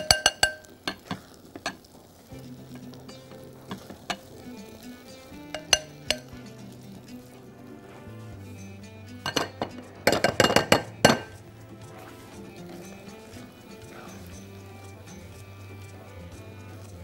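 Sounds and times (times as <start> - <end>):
background music: 0.0 - 17.0
spatula clinking on bowl and pan: 0.0 - 17.0.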